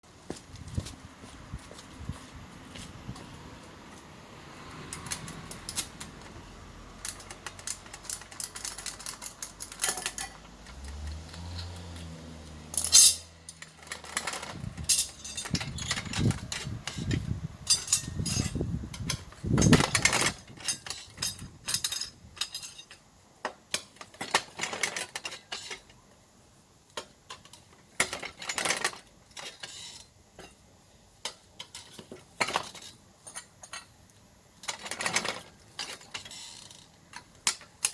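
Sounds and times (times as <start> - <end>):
metal tools clinking and scraping: 0.2 - 4.1, 4.8 - 23.1, 23.7 - 26.0, 27.0 - 30.6, 31.2 - 34.0, 34.6 - 37.9.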